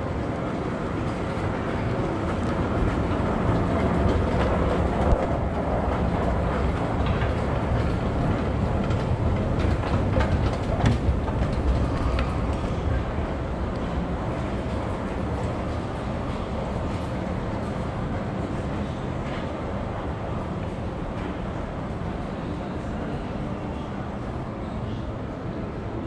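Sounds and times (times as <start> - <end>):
metro train rumbling: 0.0 - 26.0.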